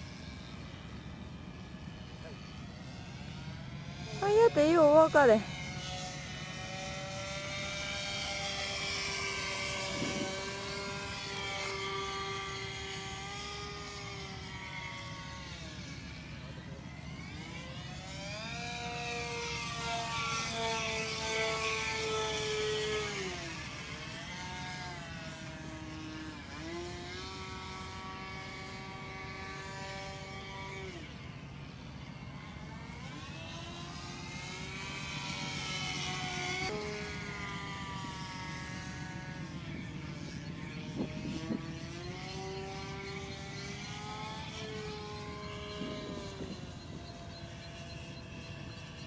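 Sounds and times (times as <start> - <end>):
model airplane engine at high revs: 0.0 - 49.0.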